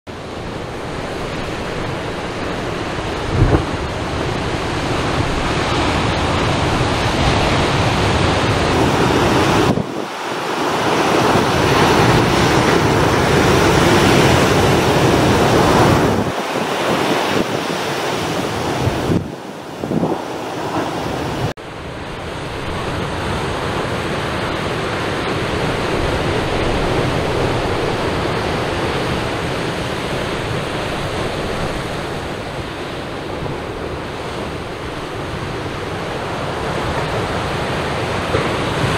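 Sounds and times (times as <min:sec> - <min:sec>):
ocean surf breaking on beach: 0:00.1 - 0:38.9
wind buffeting microphone: 0:00.1 - 0:38.9.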